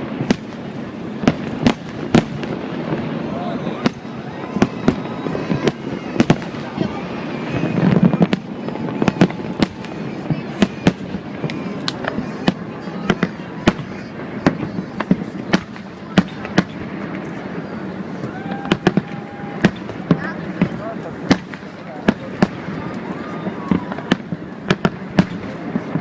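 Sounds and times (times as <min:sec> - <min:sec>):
fireworks bangs: 0:00.0 - 0:26.0
people's voices: 0:00.0 - 0:26.0.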